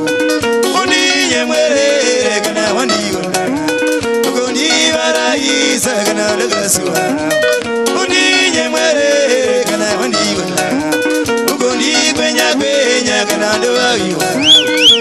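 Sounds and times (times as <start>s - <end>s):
band playing live: 0.0s - 15.0s
picked electric guitar lines: 0.0s - 15.0s.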